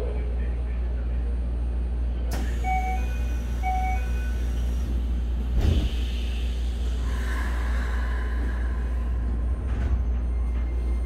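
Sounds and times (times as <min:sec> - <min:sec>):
train interior hum and rumble: 0:00.0 - 0:11.0.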